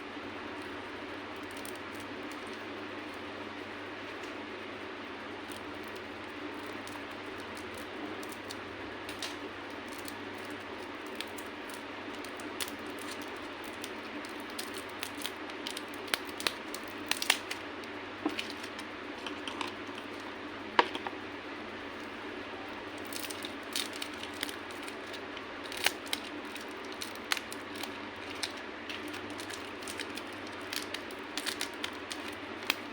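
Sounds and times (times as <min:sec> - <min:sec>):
candy being crushed: 0:01.4 - 0:02.6, 0:05.4 - 0:21.1, 0:22.7 - 0:32.9.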